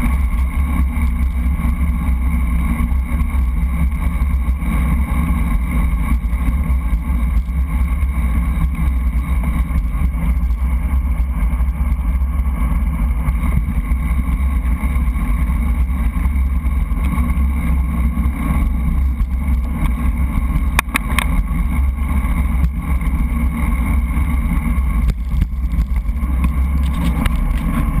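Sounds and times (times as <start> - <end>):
bicycle road rumble: 0.0 - 28.0
wind noise: 0.0 - 28.0.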